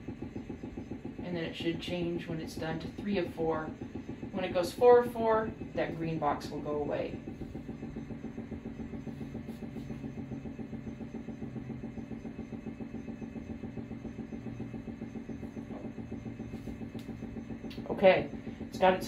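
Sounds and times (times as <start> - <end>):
low machine hum with pulsing: 0.0 - 19.0.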